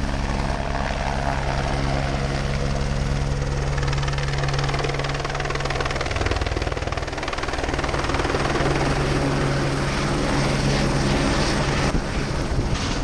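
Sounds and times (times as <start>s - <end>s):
helicopter engine hum: 0.0s - 13.0s
helicopter rotor beating: 0.0s - 13.0s.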